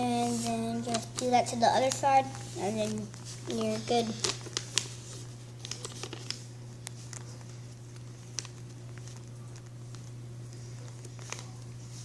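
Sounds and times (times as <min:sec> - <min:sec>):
low steady hum: 0:00.0 - 0:12.0
paper crinkling: 0:00.2 - 0:12.0.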